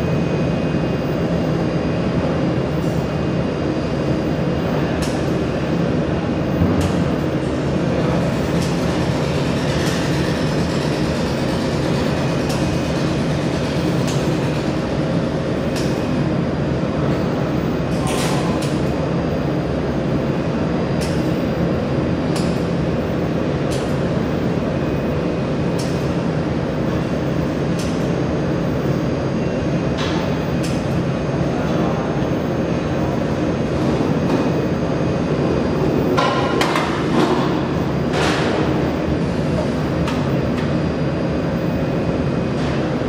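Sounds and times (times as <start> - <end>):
laser welder machine hum: 0.0 - 43.0.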